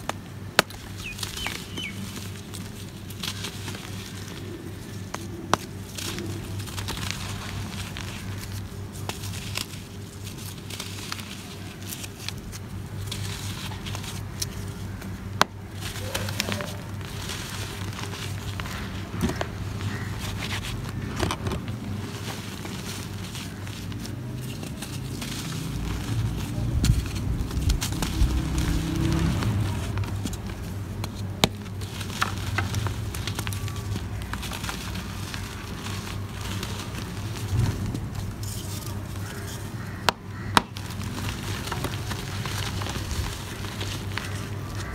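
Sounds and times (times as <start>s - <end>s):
chalky chunks crunching by hand: 0.0s - 44.9s
grit trickling: 0.6s - 44.9s.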